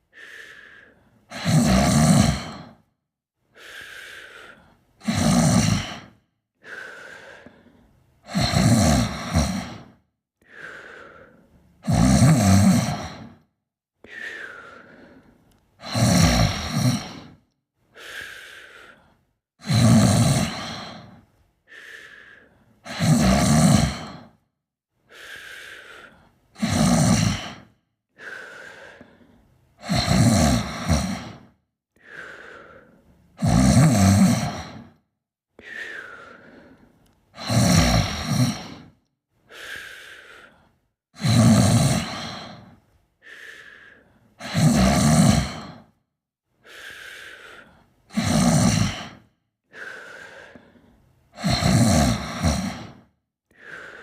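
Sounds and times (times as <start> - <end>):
person snoring: 0.2 - 2.9, 3.6 - 13.5, 14.1 - 24.4, 25.1 - 35.0, 35.6 - 42.8, 43.4 - 46.0, 46.6 - 54.0.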